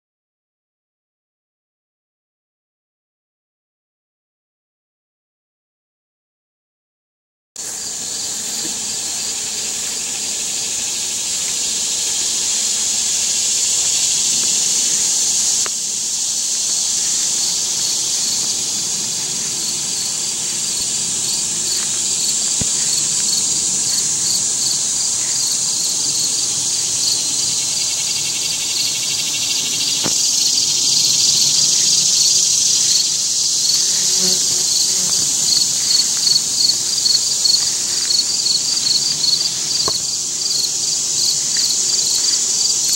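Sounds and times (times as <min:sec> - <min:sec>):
insects chorus: 0:07.6 - 0:42.9
rhythmic pulsing insect call: 0:07.6 - 0:42.9.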